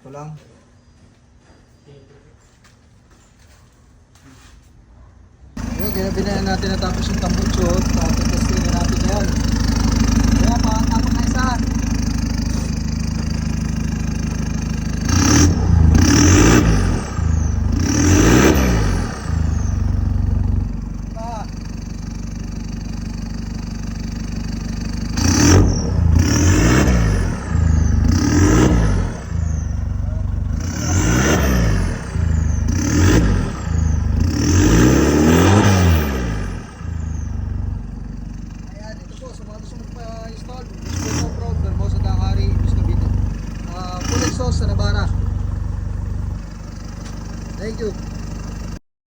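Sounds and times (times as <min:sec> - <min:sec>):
pickup engine idling and revving: 0:05.6 - 0:48.8.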